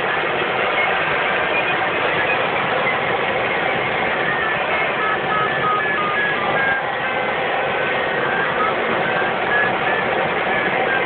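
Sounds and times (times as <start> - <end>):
variometer beeps: 0.1 - 11.0.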